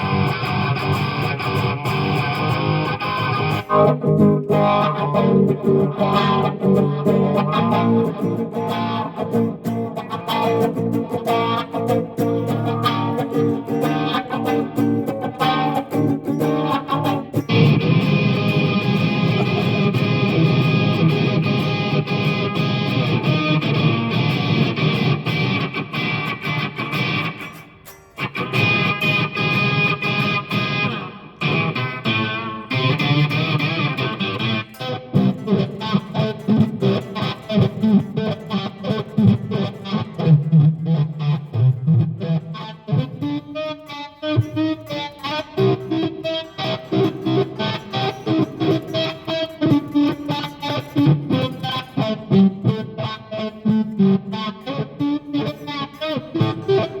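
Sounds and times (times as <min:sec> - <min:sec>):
electric guitar playing: 0:00.0 - 0:57.0.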